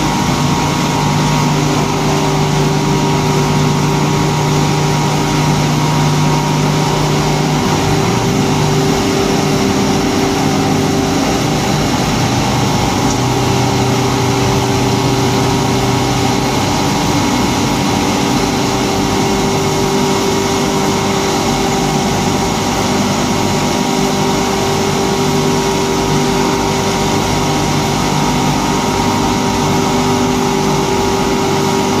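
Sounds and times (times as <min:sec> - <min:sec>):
machine running: 0:00.0 - 0:32.0.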